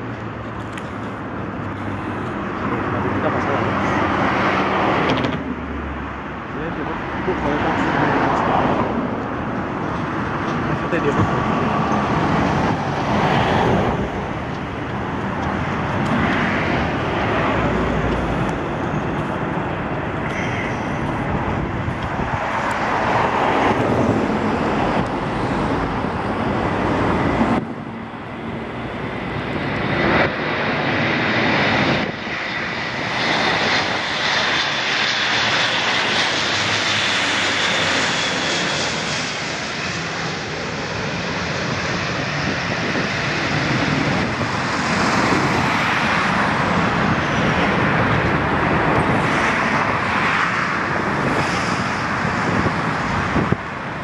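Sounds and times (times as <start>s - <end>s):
high engine whine: 0.0s - 54.0s
turboprop engines droning: 0.0s - 54.0s.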